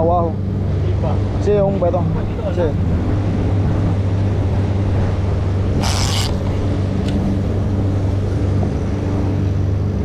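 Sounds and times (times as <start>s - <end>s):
outboard engines humming: 0.0s - 10.0s.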